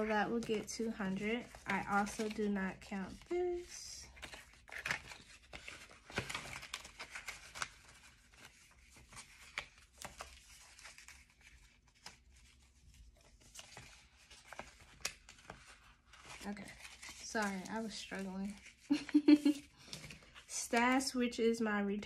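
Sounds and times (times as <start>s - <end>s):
paper banknotes rustling: 0.0s - 20.5s.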